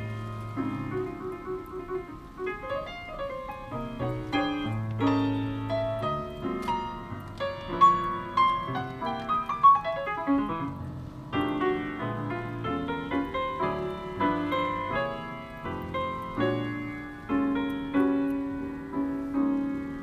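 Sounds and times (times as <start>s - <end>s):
piano music over car speakers: 0.0s - 20.0s.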